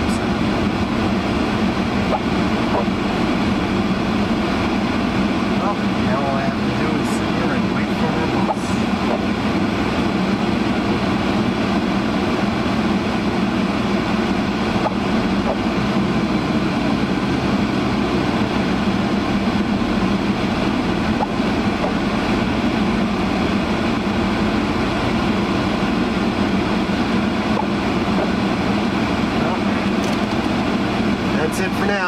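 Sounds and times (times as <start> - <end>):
car driving on snow: 0.0 - 32.0
fan blowing air: 0.0 - 32.0.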